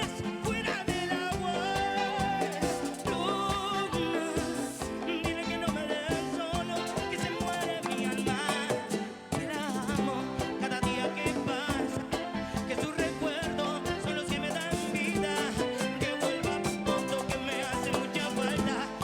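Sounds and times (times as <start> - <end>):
latin band playing percussion and guitar: 0.0 - 19.0.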